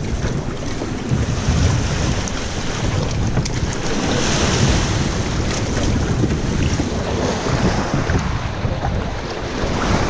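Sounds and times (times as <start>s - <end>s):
waves hitting boat hull: 0.0s - 10.0s
waves splashing over rocks: 0.0s - 10.0s
wind buffeting microphone: 0.0s - 10.0s.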